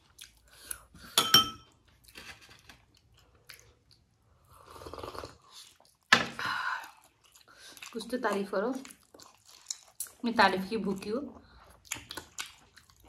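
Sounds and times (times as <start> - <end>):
chewing and wet mouth sounds: 0.0 - 1.1, 1.8 - 13.0.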